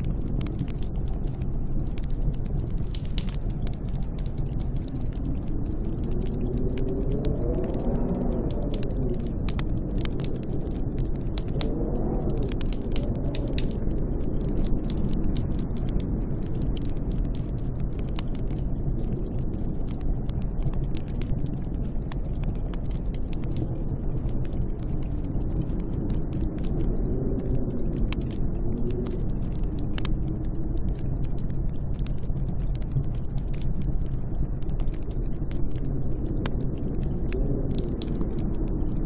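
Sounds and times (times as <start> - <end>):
sharp crackling clicks: 0.0 - 39.0
wind howling in gusts: 0.0 - 39.0.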